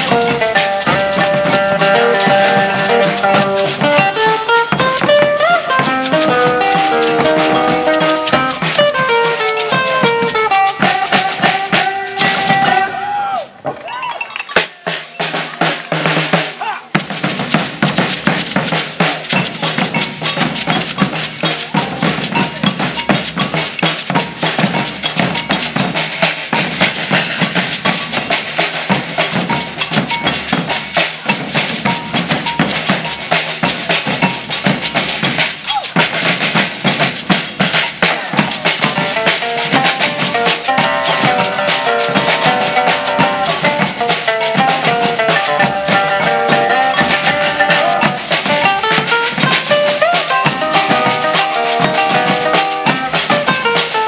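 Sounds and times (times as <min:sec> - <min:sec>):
beaded gourd shakers: 0:00.0 - 0:13.2, 0:16.9 - 0:54.0
double cowbell: 0:00.0 - 0:13.2, 0:13.8 - 0:16.3, 0:16.9 - 0:54.0
metal tube shakers: 0:00.0 - 0:13.2, 0:17.0 - 0:54.0
bass drums: 0:00.0 - 0:13.7, 0:14.6 - 0:54.0
snare drum: 0:00.0 - 0:54.0.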